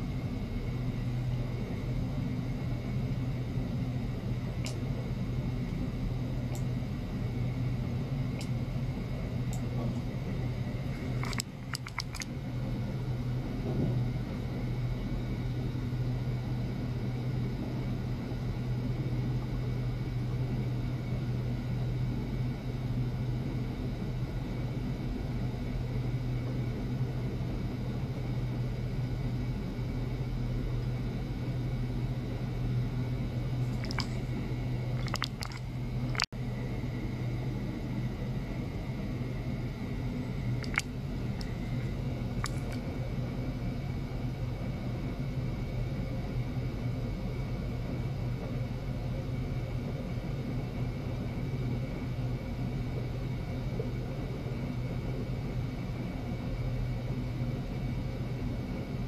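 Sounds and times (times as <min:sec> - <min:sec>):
low mechanical hum: 0:00.0 - 0:59.0.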